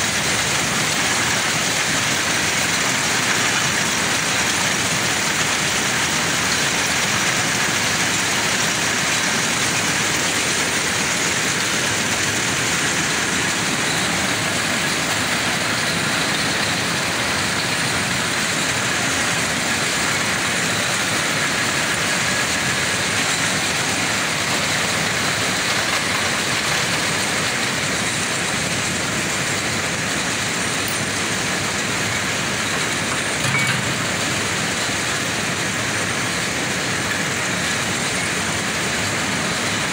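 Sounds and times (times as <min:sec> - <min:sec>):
mill machinery running: 0:00.0 - 0:39.9.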